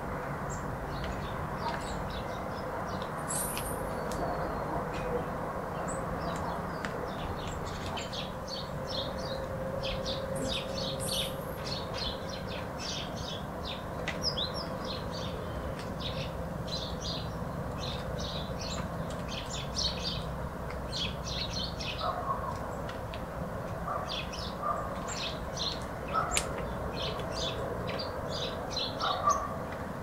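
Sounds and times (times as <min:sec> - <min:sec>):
small birds chirping: 0:00.5 - 0:23.2, 0:23.8 - 0:29.8.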